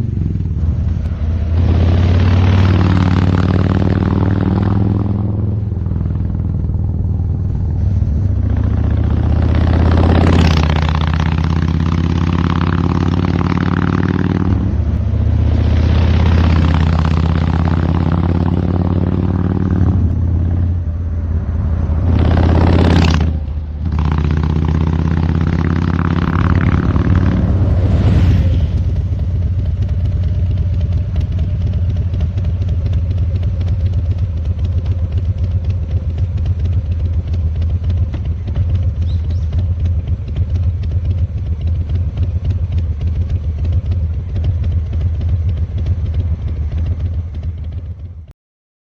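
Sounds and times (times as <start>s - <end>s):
motorcycle engine revving: 0.0s - 48.3s.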